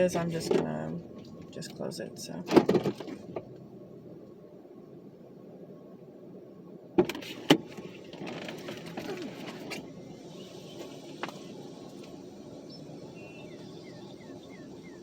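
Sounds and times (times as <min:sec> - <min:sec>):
car sounds: 0:00.0 - 0:15.0.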